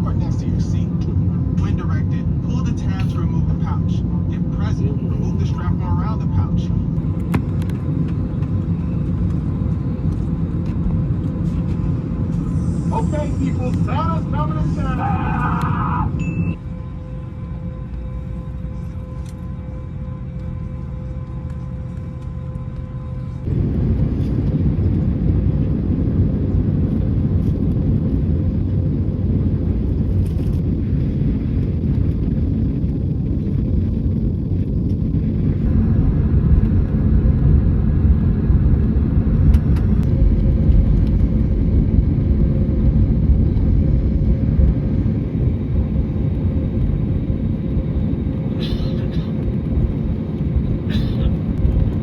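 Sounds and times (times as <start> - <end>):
airplane cabin deep rumble: 0.0 - 52.0.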